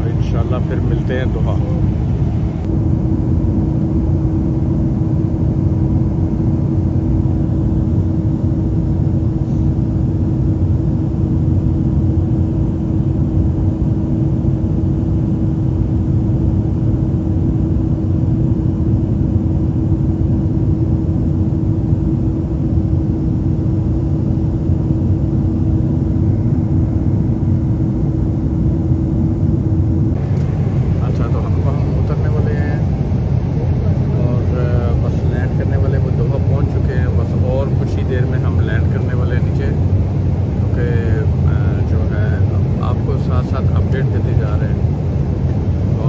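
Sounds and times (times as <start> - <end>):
airliner cabin drone: 0.0 - 46.0.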